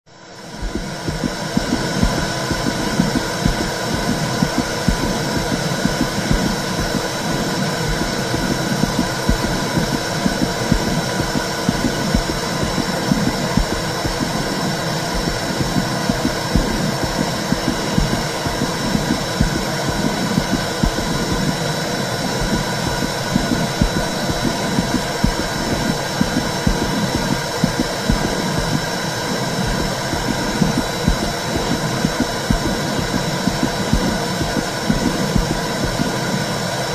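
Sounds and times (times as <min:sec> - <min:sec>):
heartbeat-like pulsing: 0:00.3 - 0:36.9.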